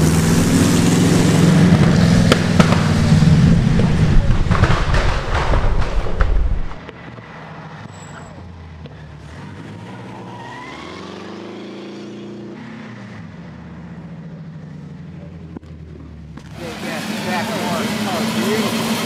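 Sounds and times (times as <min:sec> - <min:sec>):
racing car engine revving: 0:00.0 - 0:07.8, 0:08.8 - 0:19.0.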